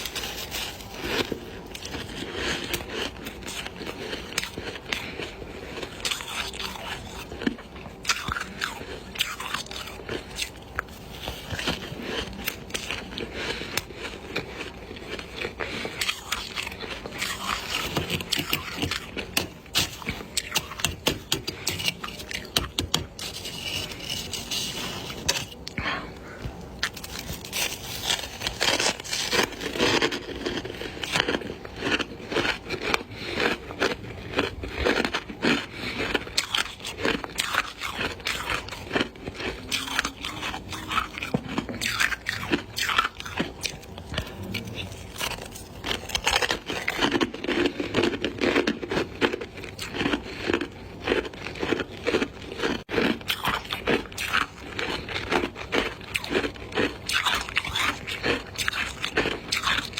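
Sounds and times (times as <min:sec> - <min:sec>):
ice being crunched: 0:00.0 - 0:05.1, 0:05.8 - 0:25.8, 0:26.8 - 0:59.9.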